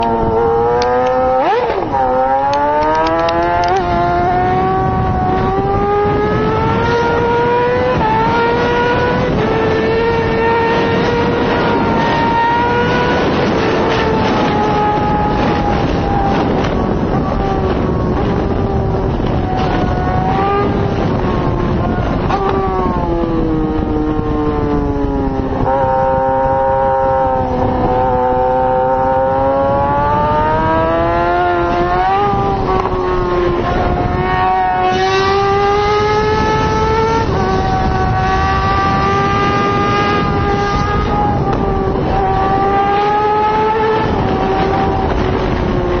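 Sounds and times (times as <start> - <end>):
motorbike engine running hard: 0.0 - 46.0
wind and road noise: 0.0 - 46.0.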